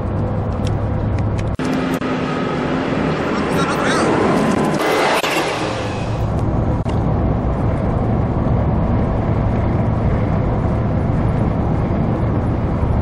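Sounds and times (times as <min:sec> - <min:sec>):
car engine and tyres drone: 0:00.0 - 0:13.0.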